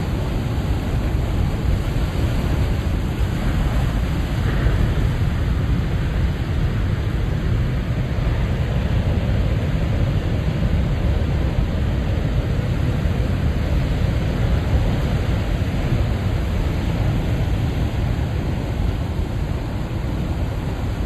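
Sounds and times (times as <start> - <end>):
ocean waves on rocky shore: 0.0 - 21.0.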